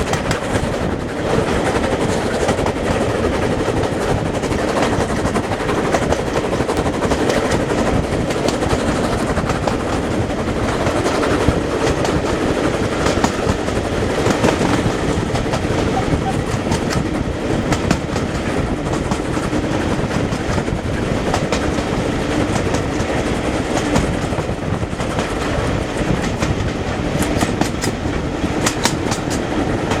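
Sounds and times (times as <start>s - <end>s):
train wheels clicking over rail joints: 0.0s - 30.0s.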